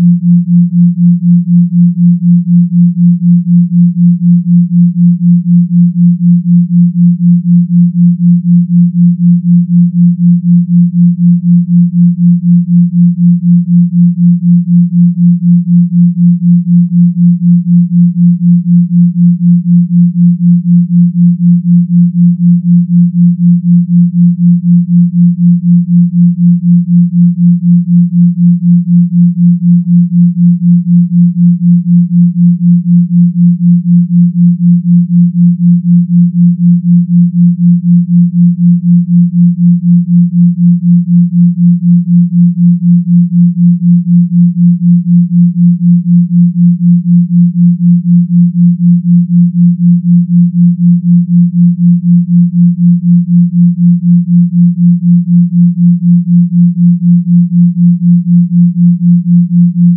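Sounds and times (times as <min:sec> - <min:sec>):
pulsing low sine hum: 0:00.0 - 0:59.9.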